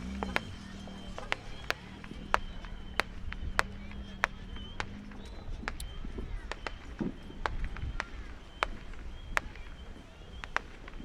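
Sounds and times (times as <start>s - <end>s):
firecrackers popping: 0.0s - 11.0s.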